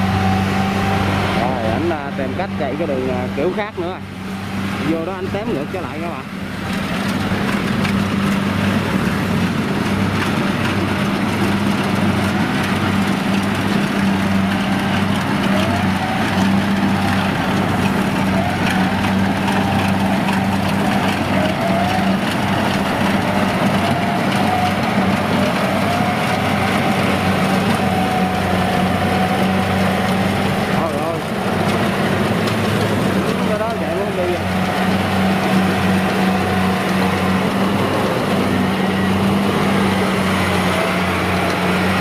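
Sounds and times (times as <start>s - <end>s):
combine harvester engine running: 0.0s - 42.0s.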